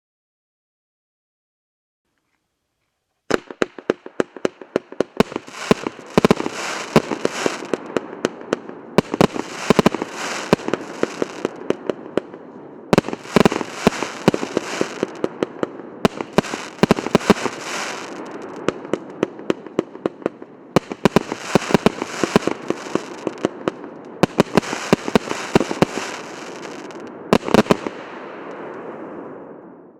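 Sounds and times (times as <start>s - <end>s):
firework cake sharp shots: 3.3s - 12.4s, 13.0s - 28.7s.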